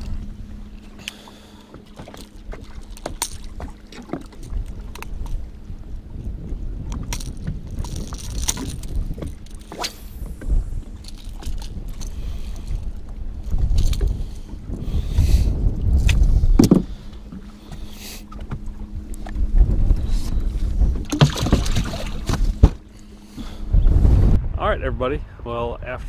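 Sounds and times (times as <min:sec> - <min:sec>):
wind rumbling on microphone: 0:00.0 - 0:01.2, 0:01.9 - 0:26.0.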